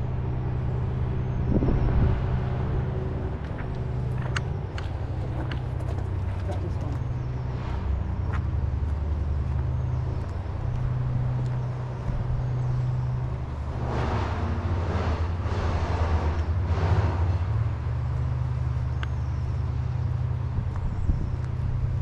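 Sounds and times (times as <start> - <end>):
rush of traffic noise: 0.0 - 22.0
vehicle engine running: 0.0 - 22.0.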